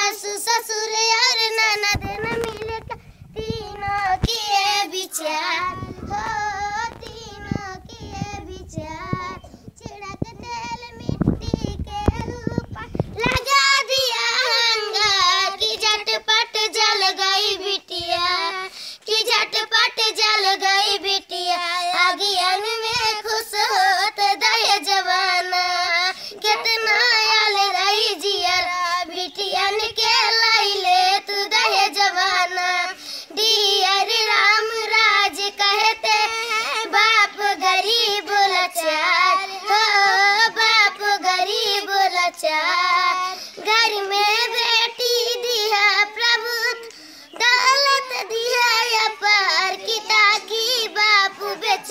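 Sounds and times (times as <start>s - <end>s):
children singing unaccompanied: 0.0s - 51.9s.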